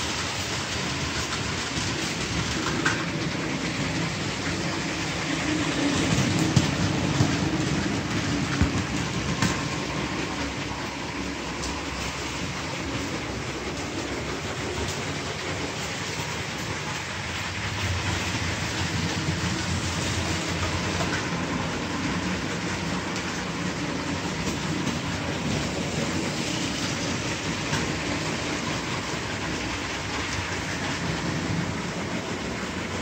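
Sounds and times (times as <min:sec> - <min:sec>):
toy train running on track: 0:00.0 - 0:33.0.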